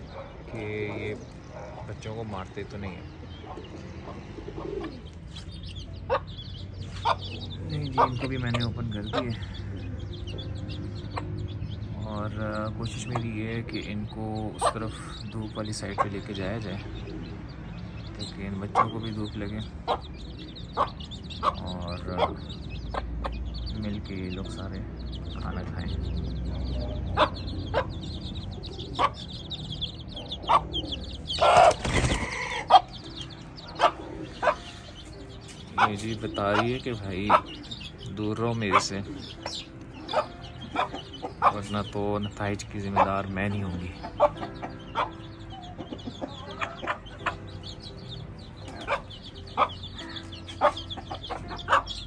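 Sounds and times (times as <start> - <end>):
hens clucking: 0.0 - 24.7, 26.5 - 52.0
chicks peeping: 0.0 - 52.0.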